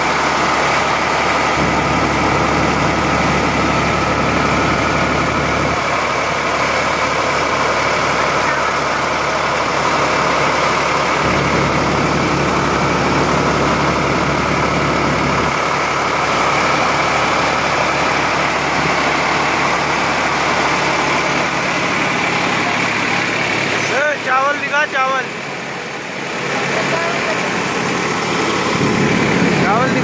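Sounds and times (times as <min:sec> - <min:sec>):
low drone: 0:00.0 - 0:23.8, 0:25.4 - 0:30.0
rice mill running: 0:00.0 - 0:30.0
tractor diesel engine running: 0:00.0 - 0:30.0.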